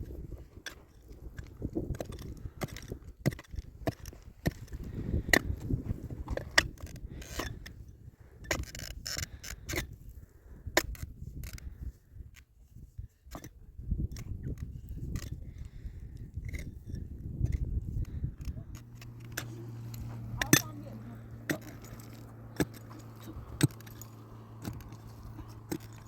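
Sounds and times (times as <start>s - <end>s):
hand tool knocks clicks and scrapes: 0.5s - 7.8s, 8.4s - 9.9s, 13.3s - 26.0s.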